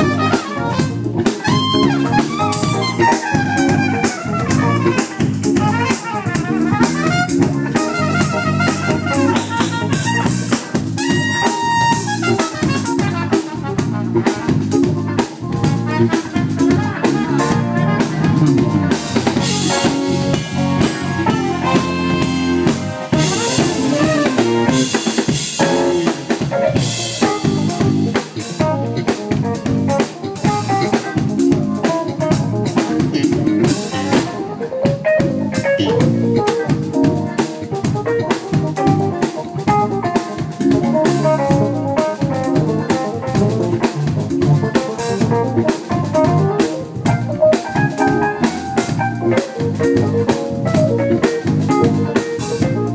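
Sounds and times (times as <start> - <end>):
drum kit snare and kick: 0.0 - 52.9
funk jazz band playing: 0.0 - 52.9.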